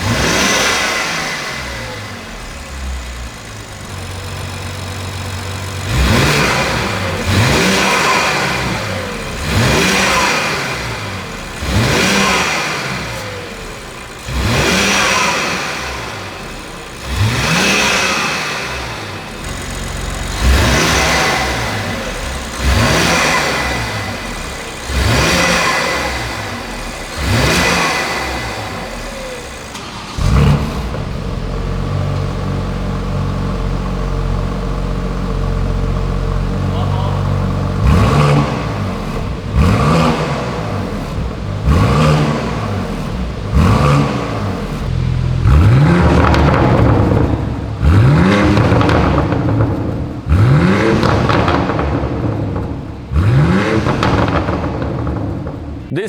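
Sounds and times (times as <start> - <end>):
car engine idling: 0.0 - 56.0
car engine revving: 0.0 - 56.0.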